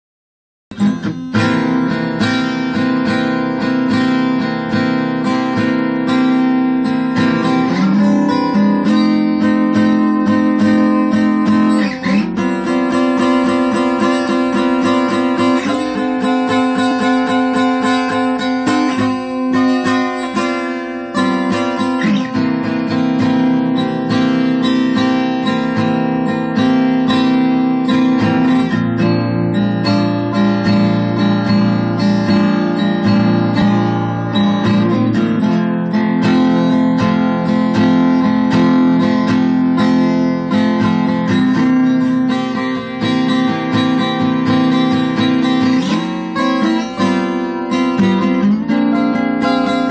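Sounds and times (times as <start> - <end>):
strummed blues guitar: 0.7 - 49.9.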